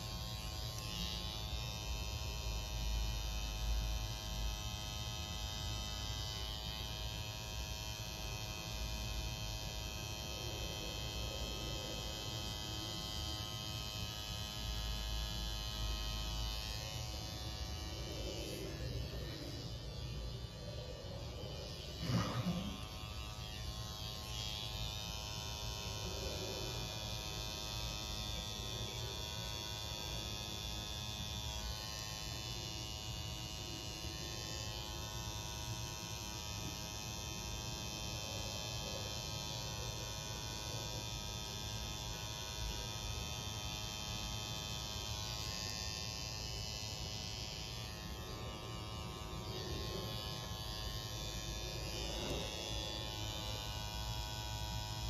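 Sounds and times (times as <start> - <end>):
tattoo machine buzzing: 0.0 - 55.0.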